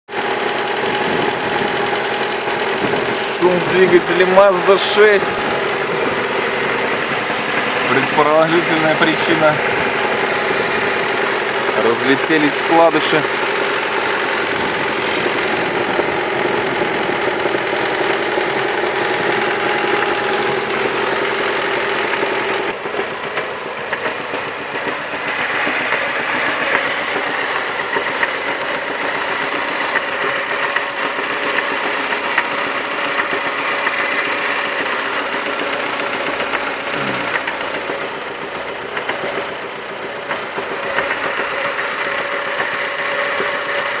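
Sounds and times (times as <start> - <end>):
car engine knocking: 0.1 - 44.0.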